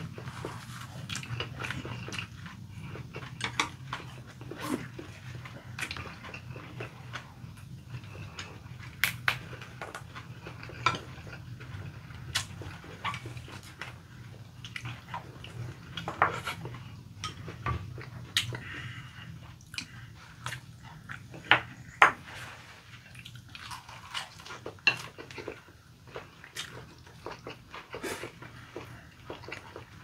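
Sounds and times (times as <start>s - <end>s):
low steady hum: 0.0s - 30.0s
people chewing food: 0.0s - 30.0s.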